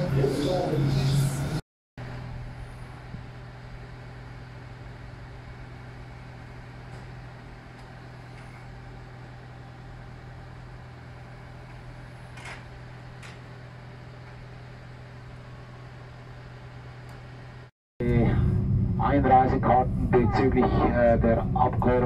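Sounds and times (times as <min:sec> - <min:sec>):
shuttle train humming: 0:00.0 - 0:22.0.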